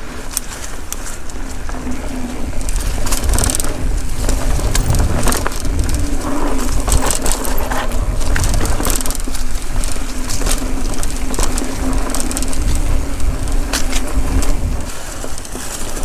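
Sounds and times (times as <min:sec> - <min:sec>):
bike tyres rolling on dirt: 0:00.0 - 0:16.0
leaves crackling: 0:00.0 - 0:16.0
wind rumble on microphone: 0:00.0 - 0:16.0.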